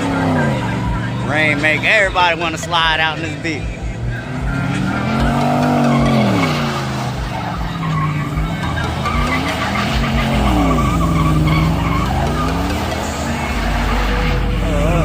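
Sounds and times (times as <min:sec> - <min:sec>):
car engine revving: 0:00.0 - 0:15.0
tyres skidding: 0:00.0 - 0:15.0.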